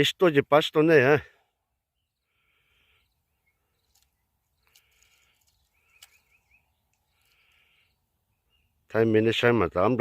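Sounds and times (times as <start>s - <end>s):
faint birdsong: 0.0s - 10.0s.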